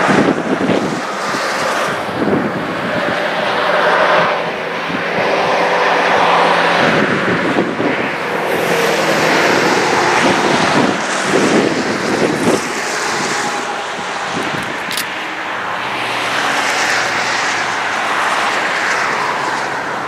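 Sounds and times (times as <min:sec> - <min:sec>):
freight train wheels on rails: 0:00.0 - 0:20.0
wind on microphone: 0:00.0 - 0:20.0.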